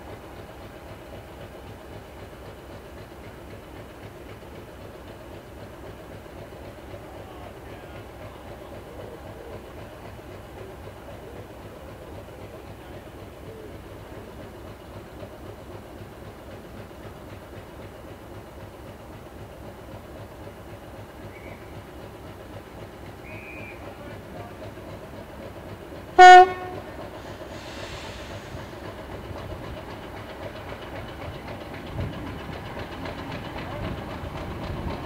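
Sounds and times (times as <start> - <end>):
diesel locomotive engine idling: 0.0 - 35.0.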